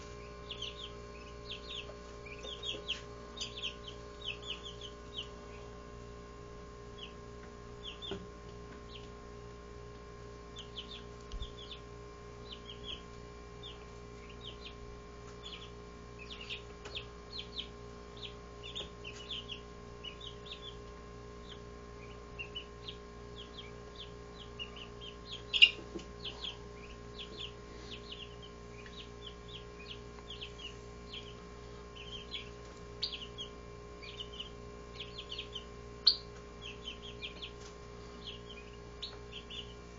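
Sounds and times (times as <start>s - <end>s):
chicks peeping: 0.0s - 39.9s
low hum: 0.0s - 39.9s.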